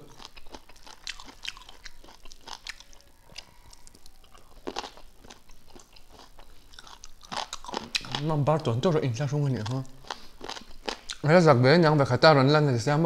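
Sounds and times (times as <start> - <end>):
people chewing and biting food: 0.0 - 8.7, 9.5 - 11.3.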